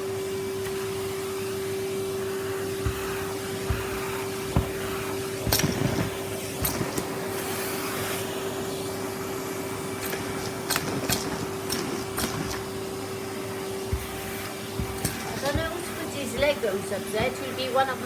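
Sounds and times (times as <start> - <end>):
vacuum cleaner motor hum: 0.0 - 18.0.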